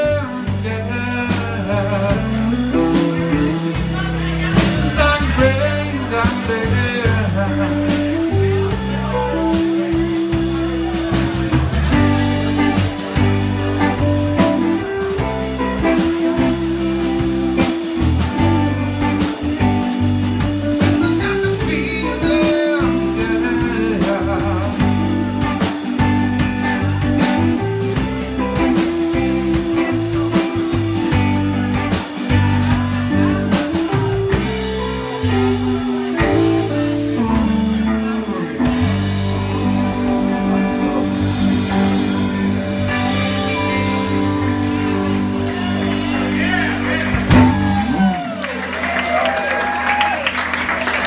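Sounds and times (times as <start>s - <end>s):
bass guitar: 0.0s - 51.0s
drum kit beat: 0.0s - 51.0s
electric guitars: 0.0s - 51.0s.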